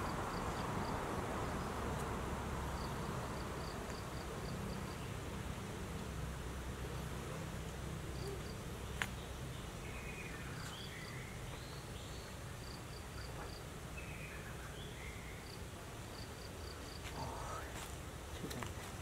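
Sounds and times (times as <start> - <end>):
insects chirping: 0.0 - 5.7, 7.8 - 19.0.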